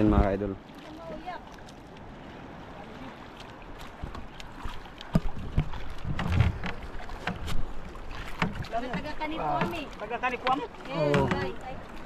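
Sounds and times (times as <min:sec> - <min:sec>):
water sloshing around a boat: 0:00.0 - 0:12.0.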